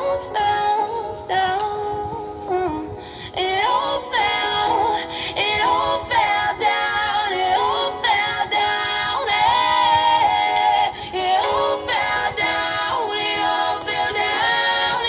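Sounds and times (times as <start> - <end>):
music: 0.0 - 15.0
synthesized female singing voice: 0.0 - 15.0.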